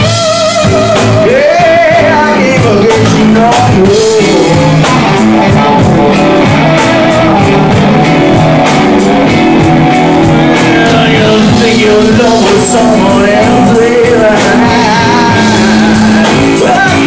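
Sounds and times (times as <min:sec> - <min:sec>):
bass guitar: 0:00.0 - 0:17.0
drum kit beat: 0:00.0 - 0:17.0
electric guitar: 0:00.0 - 0:17.0
keyboard: 0:00.0 - 0:17.0.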